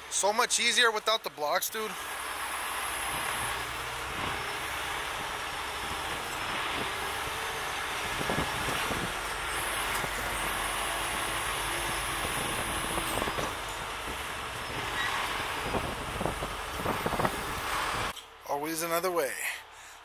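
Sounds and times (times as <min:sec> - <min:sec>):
diesel engine running: 0:00.0 - 0:18.2
hydraulic boom working: 0:01.8 - 0:18.3.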